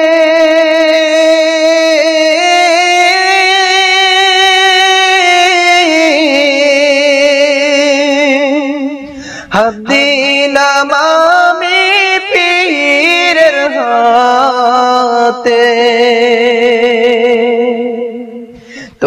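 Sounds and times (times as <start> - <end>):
person singing devotional song: 0.0 - 19.0.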